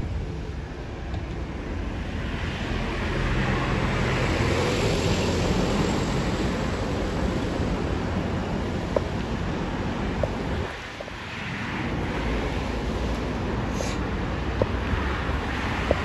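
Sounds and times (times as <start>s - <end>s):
airliner engine passing: 0.0s - 16.0s.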